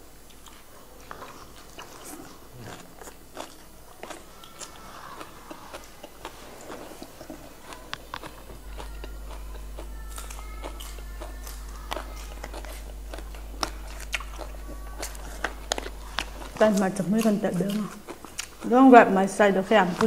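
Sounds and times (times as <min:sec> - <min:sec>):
crunching raw vegetables: 0:00.0 - 0:20.0.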